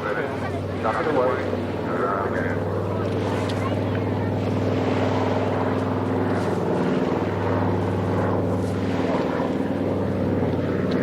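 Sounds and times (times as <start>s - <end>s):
aircraft piston engines running: 0.0s - 11.0s.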